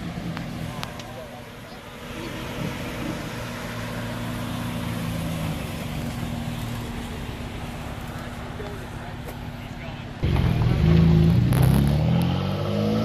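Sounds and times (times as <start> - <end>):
car engine and exhaust drone: 0.0 - 13.0.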